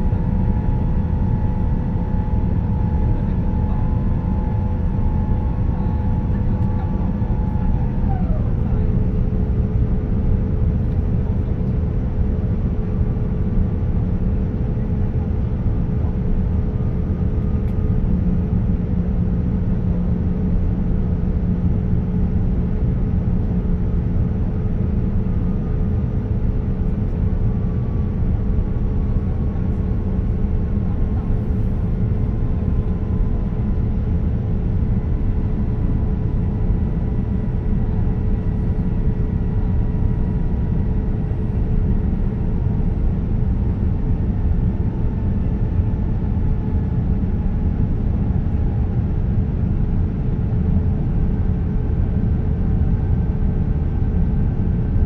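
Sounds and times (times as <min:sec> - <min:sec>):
airplane cabin airflow and engines: 0:00.0 - 0:55.0.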